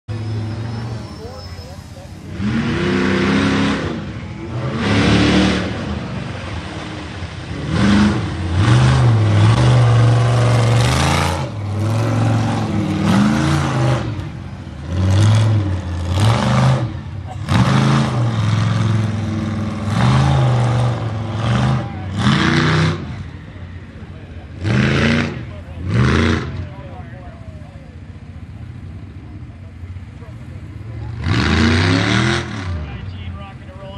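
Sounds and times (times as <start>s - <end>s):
truck engine revving hard: 0.1s - 27.2s, 30.8s - 33.1s.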